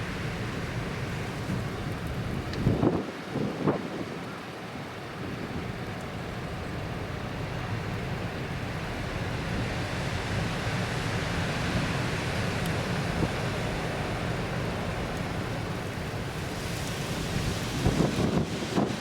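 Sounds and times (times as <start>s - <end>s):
rough surf rushing: 0.0s - 19.0s
wind buffeting the microphone: 0.4s - 4.4s, 5.2s - 19.0s.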